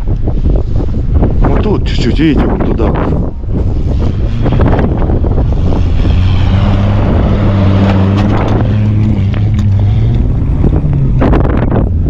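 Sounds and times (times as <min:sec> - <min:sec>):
wind buffeting microphone: 0:00.0 - 0:12.0
off-road vehicle engine under load: 0:00.4 - 0:12.0.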